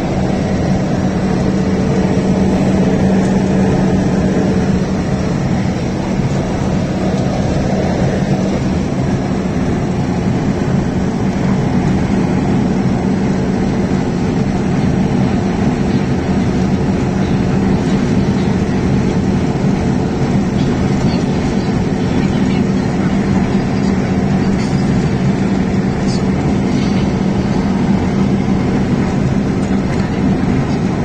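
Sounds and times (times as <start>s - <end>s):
road hum: 0.0s - 31.0s
truck engine drone: 0.0s - 31.0s.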